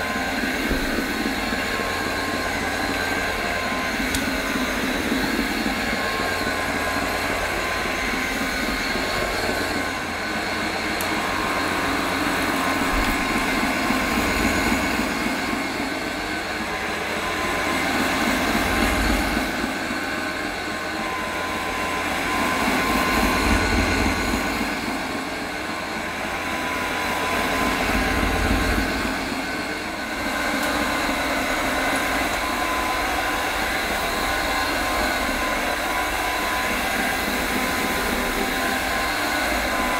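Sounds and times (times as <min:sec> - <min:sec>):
floor cleaner motor humming: 0:00.0 - 0:39.9.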